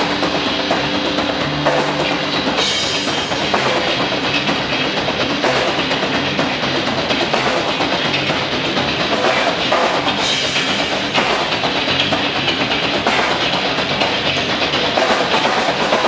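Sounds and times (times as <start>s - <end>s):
bass drum: 0.0s - 16.0s
guitar: 0.0s - 16.0s
rock band playing: 0.0s - 16.0s.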